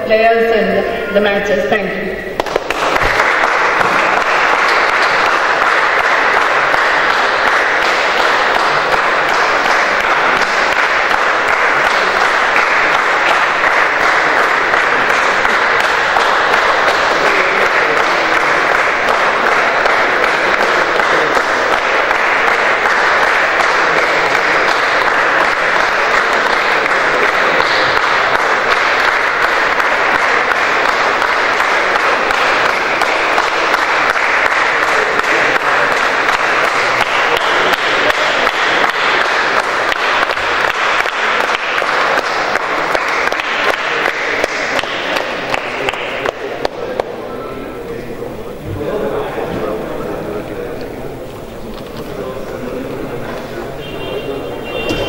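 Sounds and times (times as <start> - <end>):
group of people applauding: 2.4 - 55.0.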